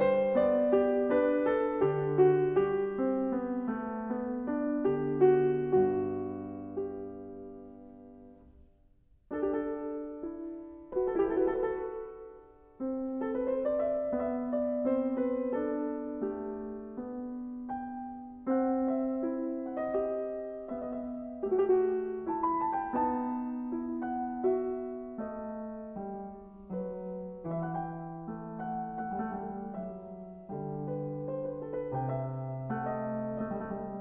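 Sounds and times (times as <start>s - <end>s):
slow piano music: 0.0s - 34.0s.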